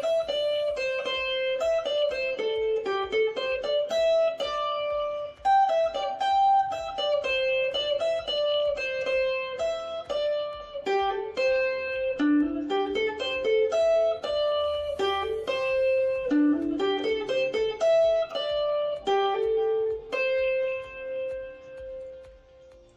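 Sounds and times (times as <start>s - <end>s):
plucked guitar-like melody: 0.0s - 22.9s.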